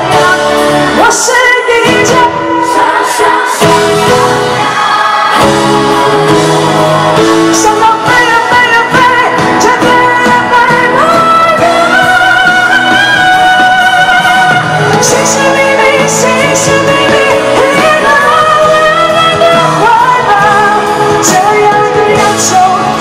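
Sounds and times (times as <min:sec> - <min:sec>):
live pop band playing: 0:00.0 - 0:23.0
person singing: 0:00.0 - 0:23.0.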